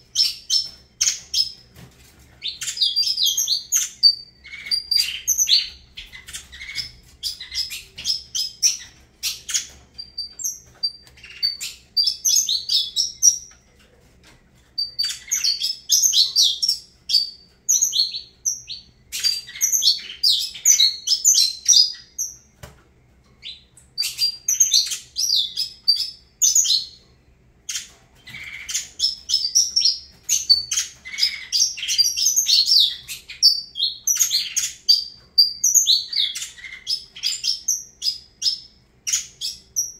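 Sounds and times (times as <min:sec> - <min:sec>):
finch singing chirps and trills: 0:00.0 - 0:13.9, 0:14.6 - 0:22.6, 0:23.4 - 0:39.9.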